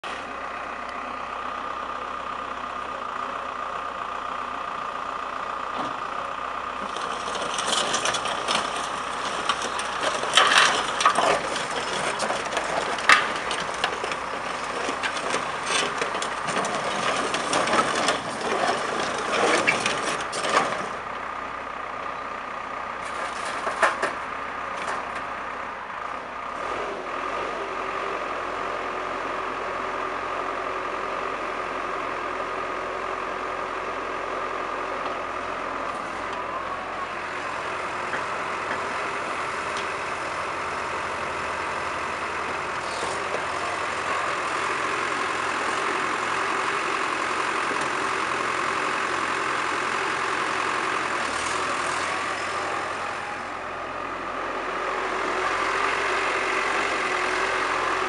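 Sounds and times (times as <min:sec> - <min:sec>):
excavator diesel engine whining: 0:00.0 - 0:58.0.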